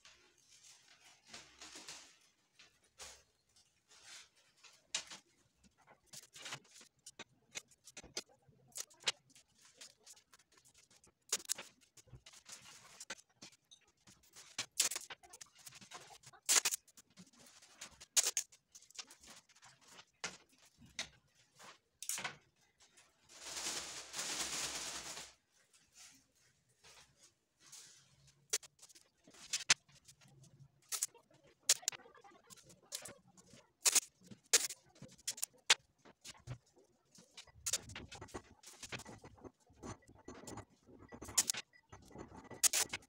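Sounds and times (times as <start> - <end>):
paper kites crackling and rustling: 0.0 - 39.7.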